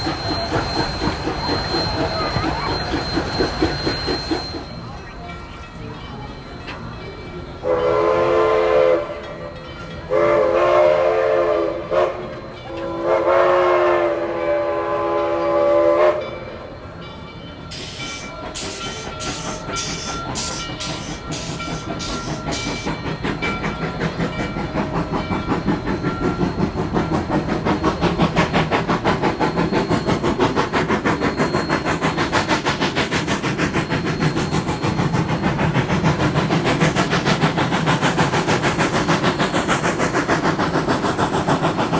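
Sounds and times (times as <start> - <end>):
steam locomotive chime whistle: 0.0 - 41.9
steam locomotive exhaust chuffs: 0.0 - 41.9.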